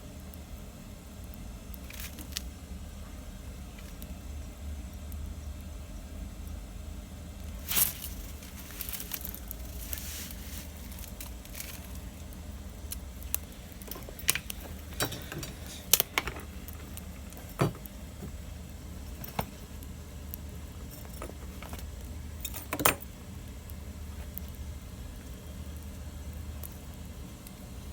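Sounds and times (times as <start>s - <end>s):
low steady rumble: 0.0s - 27.9s
wood fire crackling: 0.0s - 27.9s.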